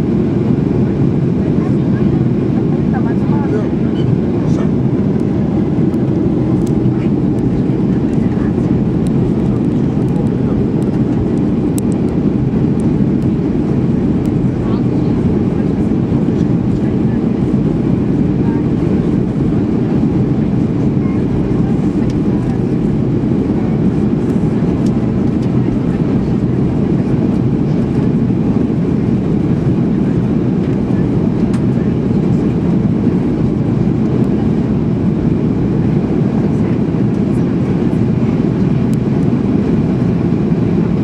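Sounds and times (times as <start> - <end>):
airplane cabin drone: 0.0 - 41.0.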